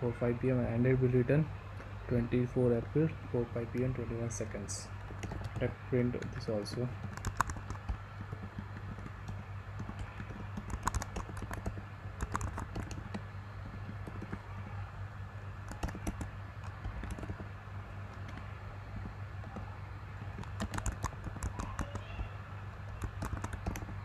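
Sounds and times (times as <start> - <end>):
steady low hum: 0.0 - 24.0
keyboard typing: 3.8 - 14.6, 15.6 - 24.0.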